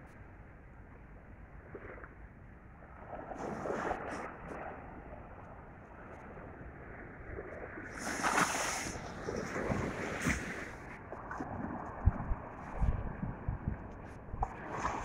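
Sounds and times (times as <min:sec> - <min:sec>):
small waves washing on sand: 0:02.8 - 0:15.0
wind on microphone: 0:02.9 - 0:15.0.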